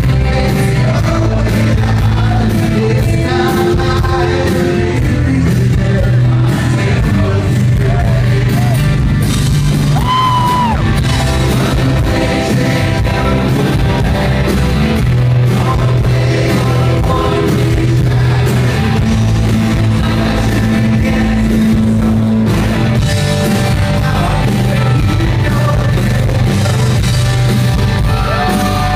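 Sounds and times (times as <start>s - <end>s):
person singing: 0.0s - 8.9s, 10.0s - 19.1s, 19.7s - 27.3s
rock band playing live: 0.0s - 28.9s.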